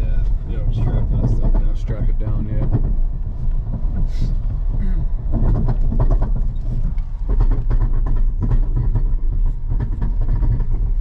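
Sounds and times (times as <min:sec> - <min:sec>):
trailer rattling and clanking: 0:00.0 - 0:11.0
vehicle rumbling on dirt road: 0:00.0 - 0:11.0.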